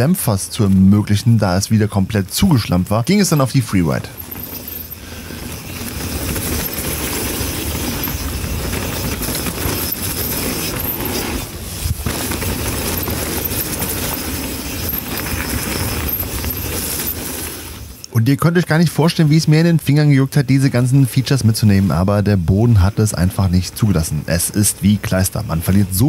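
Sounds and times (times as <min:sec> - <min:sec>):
bike tyres rattling over dirt: 0:00.6 - 0:26.0.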